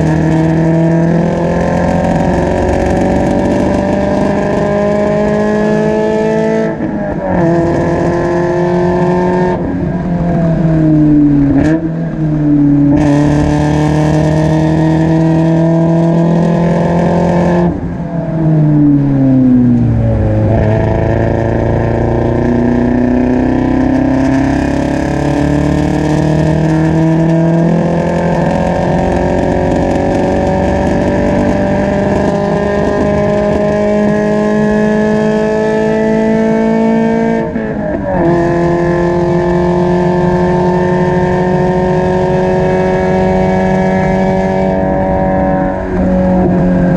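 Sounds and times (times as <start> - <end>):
race car engine and exhaust: 0.0 - 46.9.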